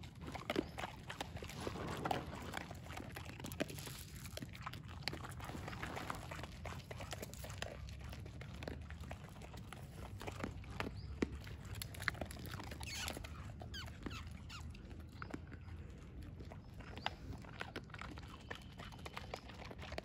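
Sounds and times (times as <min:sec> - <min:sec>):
dogs crunching dry kibble: 0:00.0 - 0:20.0.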